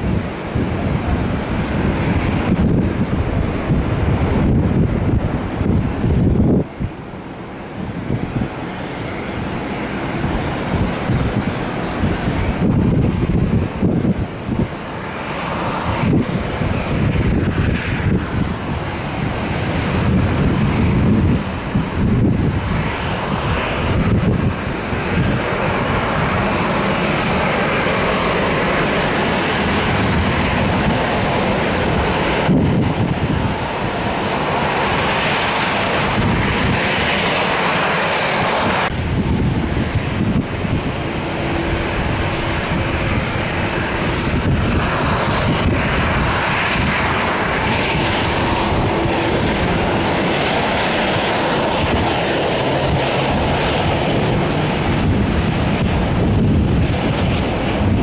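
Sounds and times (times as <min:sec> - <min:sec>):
airliner engines roaring: 0:00.0 - 0:58.0.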